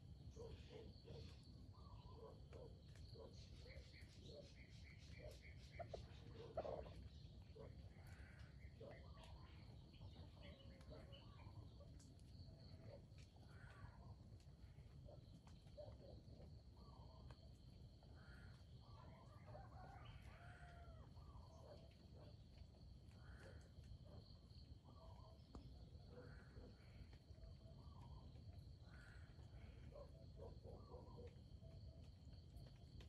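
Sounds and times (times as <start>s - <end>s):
soft bird calls: 0.3s - 33.0s.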